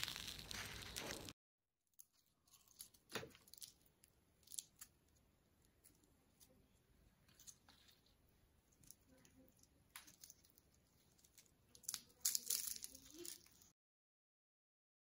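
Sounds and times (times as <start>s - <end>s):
pastry crackling and tearing: 0.0s - 1.4s, 2.0s - 13.8s.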